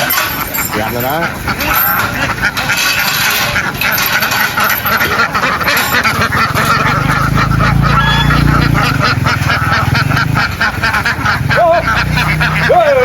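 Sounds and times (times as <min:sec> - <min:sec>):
flock of ducks quacking: 0:00.0 - 0:13.0.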